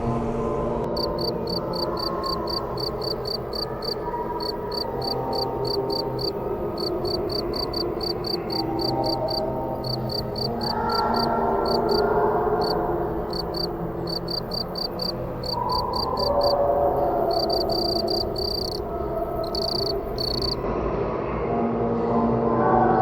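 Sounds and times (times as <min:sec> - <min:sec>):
steady background noise: 0:00.0 - 0:23.0
cricket chirping: 0:00.8 - 0:20.6.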